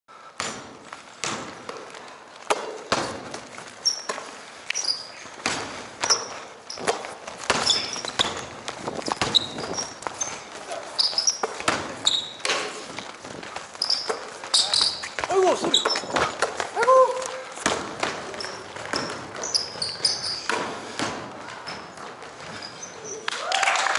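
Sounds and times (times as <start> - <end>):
footfalls: 0.2 - 23.9
basketball bouncing on wood floor: 0.4 - 1.9, 2.5 - 4.2, 5.4 - 16.6, 17.6 - 22.7
sneaker squeaks: 2.6 - 23.4.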